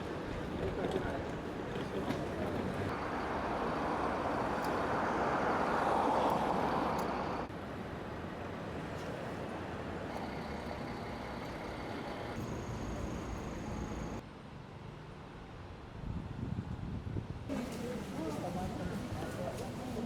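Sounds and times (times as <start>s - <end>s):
traffic hum: 0.0s - 14.4s, 17.5s - 20.0s.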